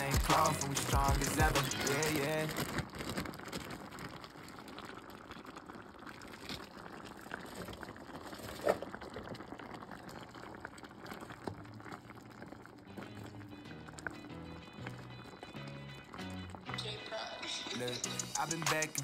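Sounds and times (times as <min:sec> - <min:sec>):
broth boiling with bubbling pops: 0:00.0 - 0:19.0.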